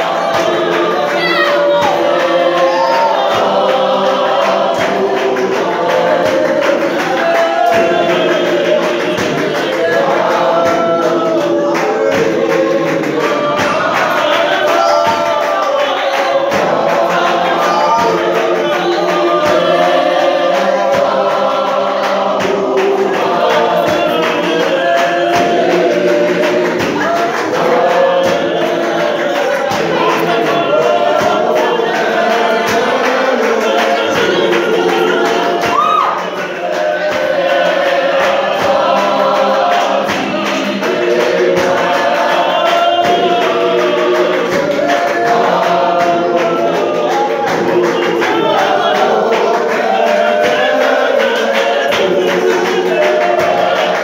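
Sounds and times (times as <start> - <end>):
gospel choir singing: 0.0 - 54.0
rhythmic hand clapping: 0.0 - 54.0.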